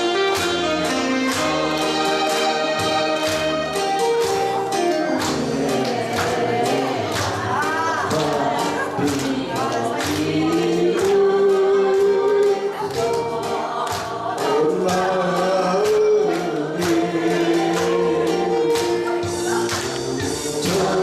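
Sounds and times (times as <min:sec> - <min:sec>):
percussion strikes: 0:00.0 - 0:11.5, 0:12.3 - 0:21.0
people singing together: 0:00.0 - 0:21.0.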